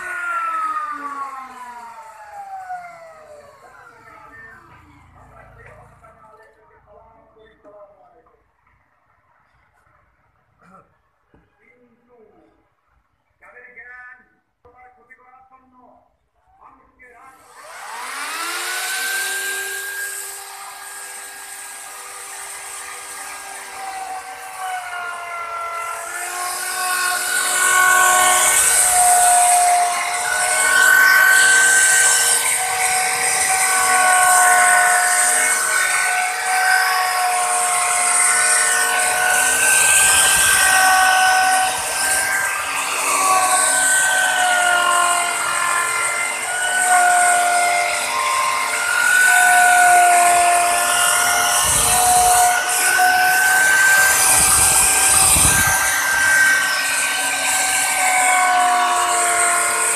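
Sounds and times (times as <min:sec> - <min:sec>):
electric router whining: 0:00.0 - 0:06.7, 0:17.2 - 0:59.9
router cutting wood: 0:00.0 - 0:07.0, 0:17.2 - 0:59.9.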